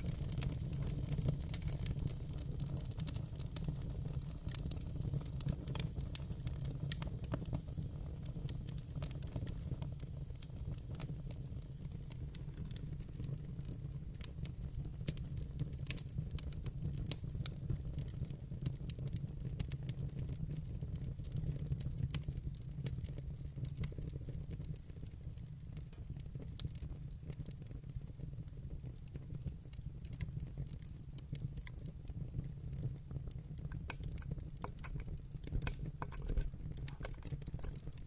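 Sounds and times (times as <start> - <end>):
wood fire rumbling: 0.0 - 27.8, 28.5 - 38.0
fire crackling and popping: 0.0 - 38.0.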